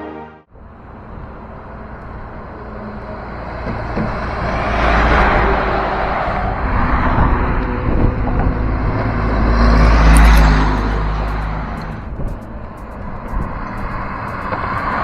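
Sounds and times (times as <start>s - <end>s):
heavy trucks passing: 0.0s - 15.0s.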